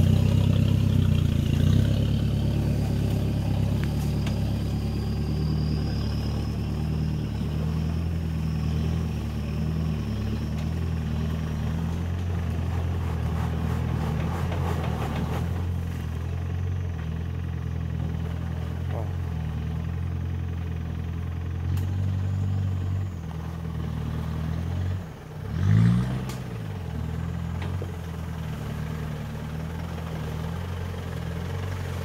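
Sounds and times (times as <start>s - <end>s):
truck engine running at low revs: 0.0s - 32.0s.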